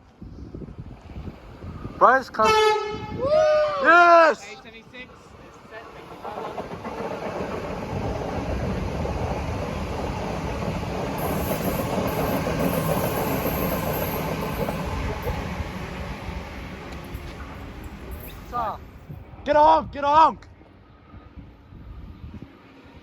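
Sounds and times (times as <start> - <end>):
train wheels rumbling on rail: 0.1 - 19.4.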